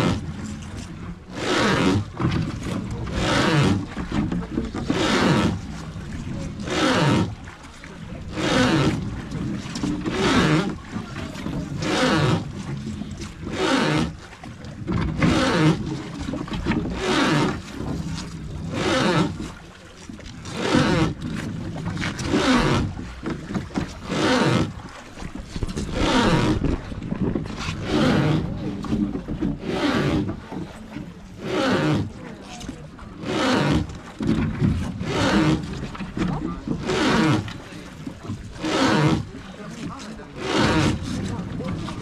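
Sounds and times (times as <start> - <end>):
oar strokes rushing water: 0.0 - 42.0
wooden boat creaking: 0.0 - 42.0.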